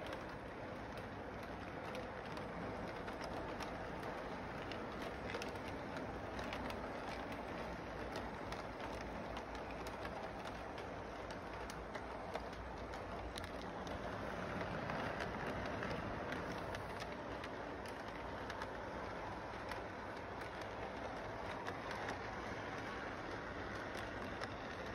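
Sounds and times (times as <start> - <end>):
model train motor whirring: 0.0 - 24.9
wheels clicking over rail joints: 0.0 - 24.9.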